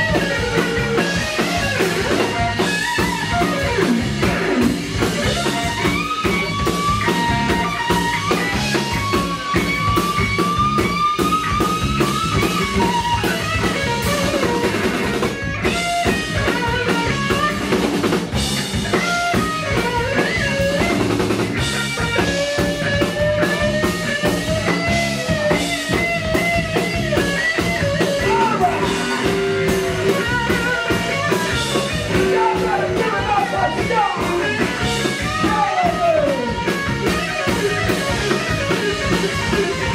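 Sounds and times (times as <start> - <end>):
drum kit: 0.0 - 39.9
electric guitar lead lines: 0.0 - 39.9.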